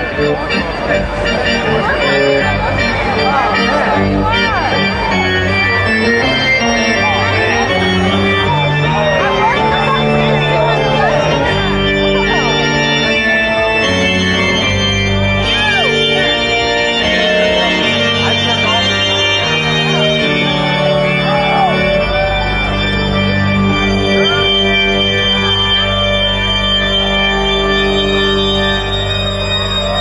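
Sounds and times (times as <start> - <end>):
crowd voices: 0.0 - 30.0
organ playing slow chords: 0.0 - 30.0.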